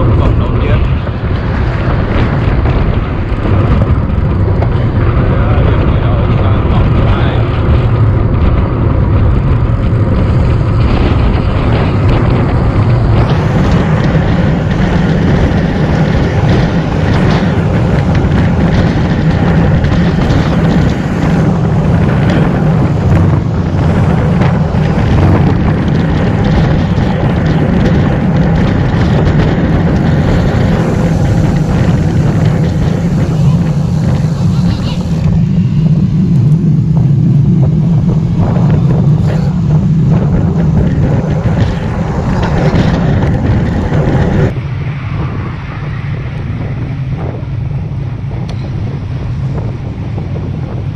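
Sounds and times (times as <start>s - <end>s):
tyre and road noise: 0.0s - 50.9s
wind buffeting microphone: 0.0s - 50.9s.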